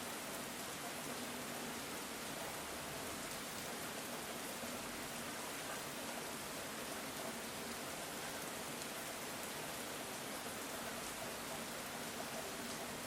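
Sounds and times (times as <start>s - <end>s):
rain falling on ground: 0.0s - 13.0s.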